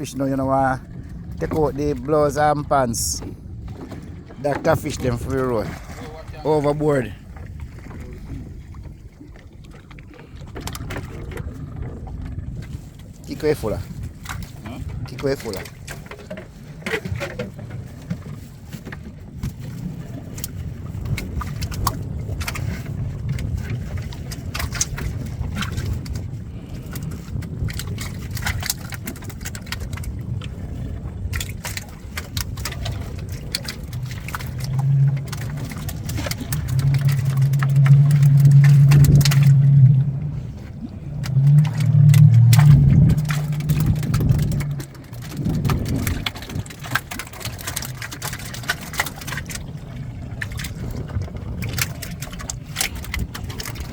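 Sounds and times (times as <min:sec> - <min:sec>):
boat engine rumbling: 0:00.0 - 0:53.9.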